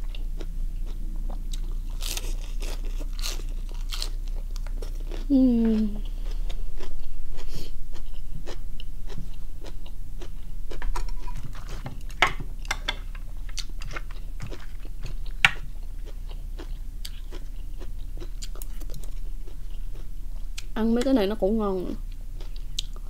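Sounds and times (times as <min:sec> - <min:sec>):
chewing and crunching: 0:00.0 - 0:21.1, 0:22.0 - 0:23.0
steady low hum: 0:00.0 - 0:23.0.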